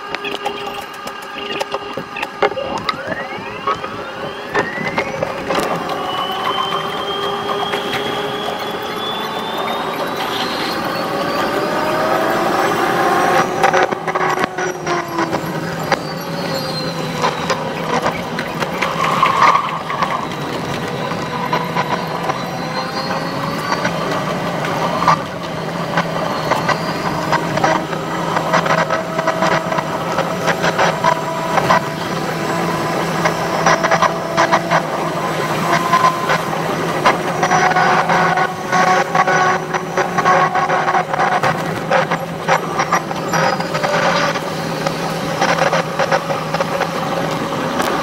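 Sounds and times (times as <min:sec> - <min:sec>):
motor whines gliding in pitch: 0:00.0 - 0:48.0
rapid clatter of train wheels: 0:00.0 - 0:48.0.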